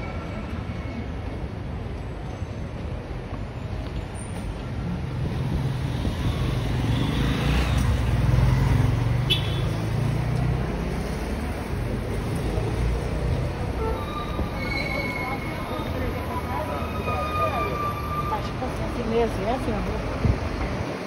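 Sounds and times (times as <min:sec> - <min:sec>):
city traffic hum: 0:00.0 - 0:21.0.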